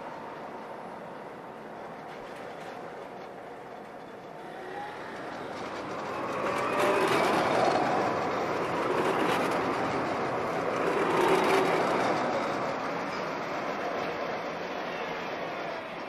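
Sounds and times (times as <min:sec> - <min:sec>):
tram running on tracks: 0:00.0 - 0:16.0.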